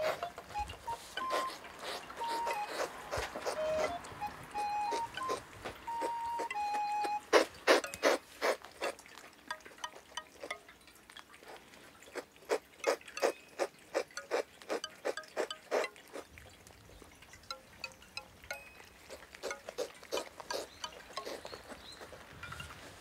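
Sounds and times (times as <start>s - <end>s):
cat licking: 0.0s - 10.6s, 11.2s - 17.2s, 18.6s - 23.0s
soft held music notes: 0.0s - 11.9s, 12.8s - 23.0s.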